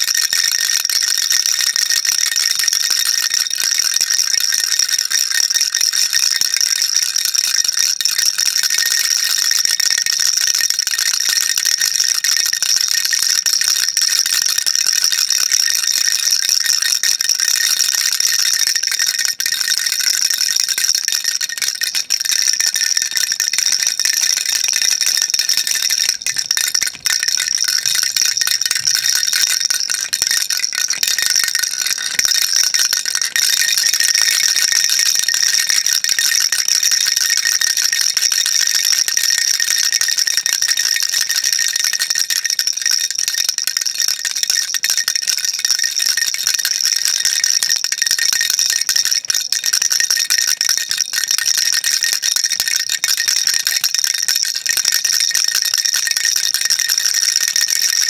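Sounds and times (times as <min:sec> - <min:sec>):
baby rattle shaking: 0:00.0 - 0:53.9, 0:54.5 - 0:56.6.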